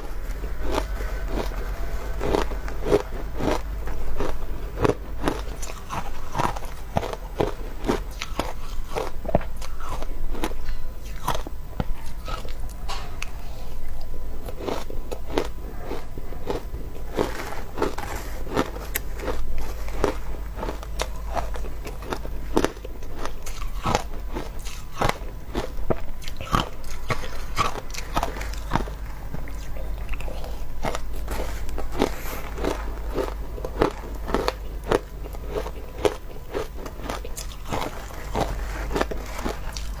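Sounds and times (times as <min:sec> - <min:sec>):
chewing crunchy ice: 0:00.0 - 0:40.0.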